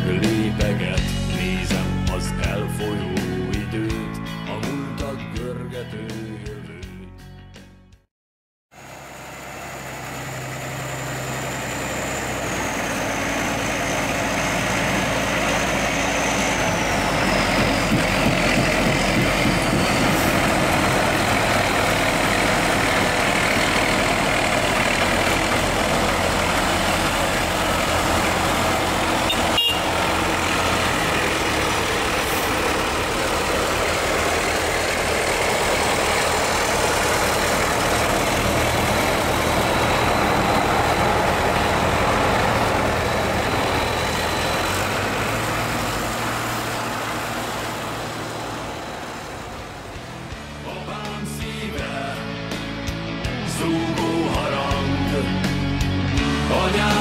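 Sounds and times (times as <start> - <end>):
heavy diesel engines running: 0.0 - 5.9, 8.7 - 57.0.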